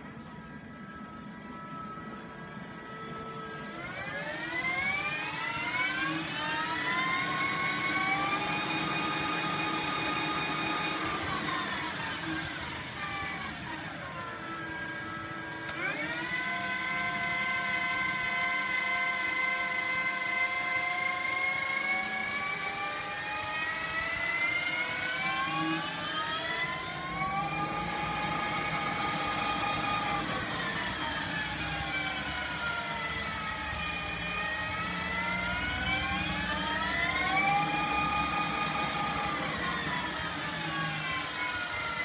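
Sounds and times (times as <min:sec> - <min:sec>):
lathe spindle drive whine: 0:00.0 - 0:42.0.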